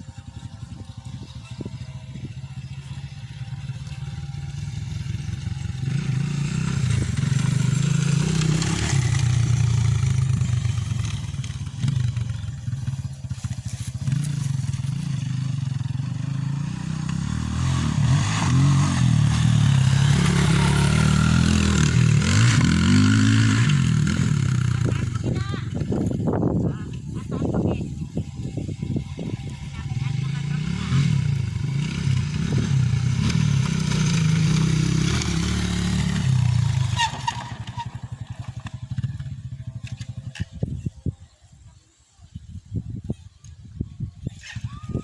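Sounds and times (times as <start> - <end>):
motocross bike engine revving: 0.3 - 40.8.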